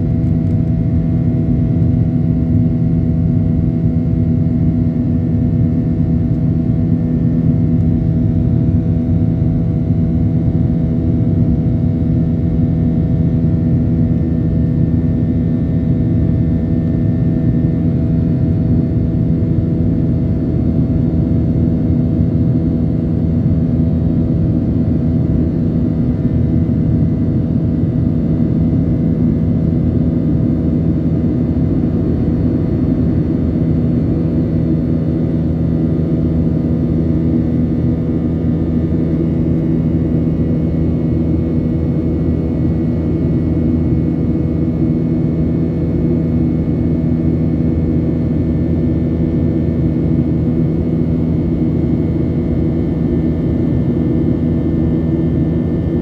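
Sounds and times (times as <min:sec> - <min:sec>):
jet engines droning in cabin: 0:00.0 - 0:56.0.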